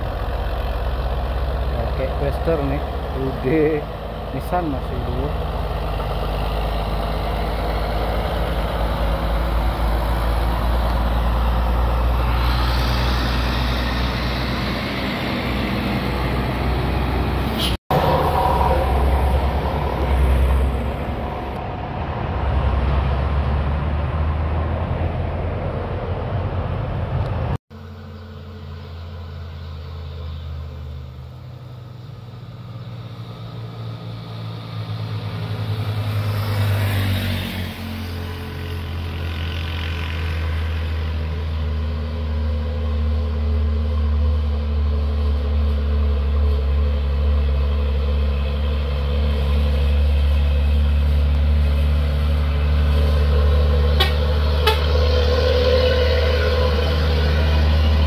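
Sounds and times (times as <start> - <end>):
heavy diesel truck engine: 0.0 - 58.0
vehicle passing by: 0.0 - 58.0.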